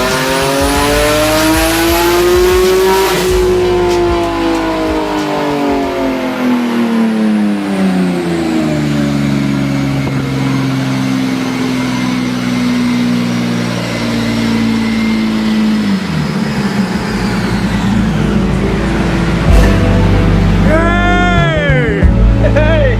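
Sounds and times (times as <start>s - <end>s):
car engine revs falling: 0.0s - 21.4s.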